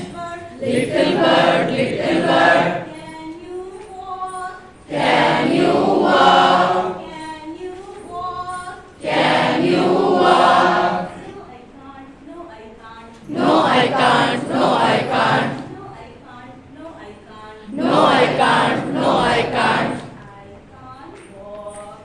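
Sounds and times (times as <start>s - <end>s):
group singing unaccompanied: 0.0s - 22.0s
single voice singing: 0.0s - 22.0s.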